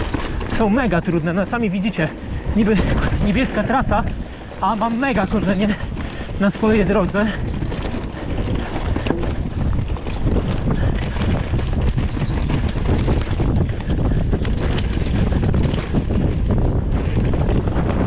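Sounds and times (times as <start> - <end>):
bike knocking over rocks: 0.0 - 18.0
bike rattling: 0.0 - 18.0
wind noise on microphone: 0.0 - 18.0.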